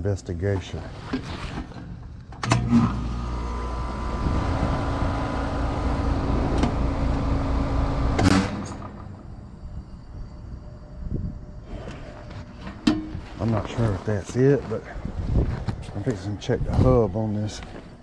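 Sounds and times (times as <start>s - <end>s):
air conditioner unit humming: 2.6s - 18.0s.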